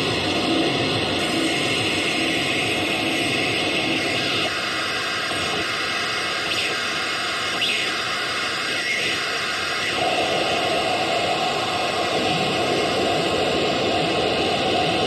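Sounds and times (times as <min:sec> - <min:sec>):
static-like hiss: 0:00.0 - 0:15.0.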